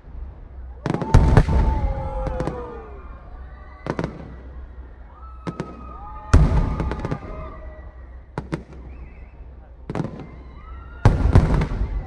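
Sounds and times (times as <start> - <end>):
fireworks booming: 0.0 - 12.0
sharp firework crack: 0.0 - 12.0.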